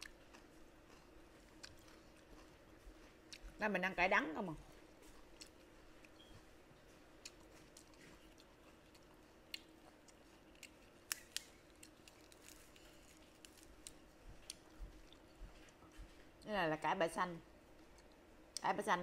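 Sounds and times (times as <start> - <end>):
person chewing crunchy greens: 0.0 - 3.6, 4.7 - 16.4
faint steady hum: 0.0 - 19.0.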